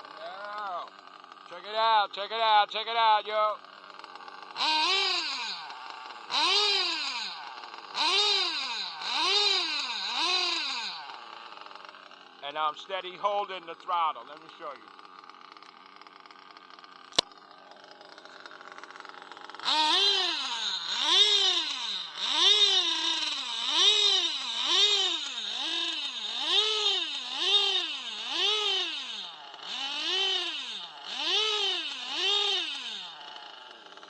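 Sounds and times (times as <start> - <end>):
small model engine surging: 0.0 - 34.0.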